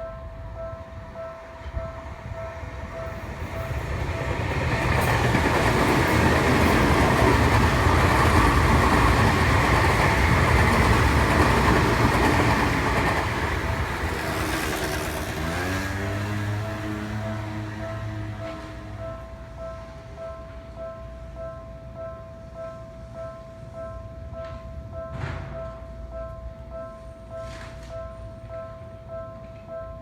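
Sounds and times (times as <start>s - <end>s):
train rumble and wheel noise: 0.0s - 30.0s.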